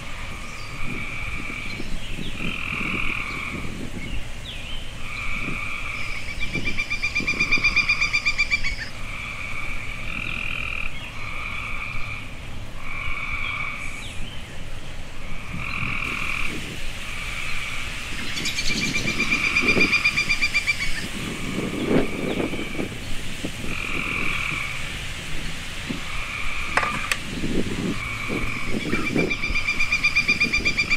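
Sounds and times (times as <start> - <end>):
frogs croaking: 0.0 - 30.9.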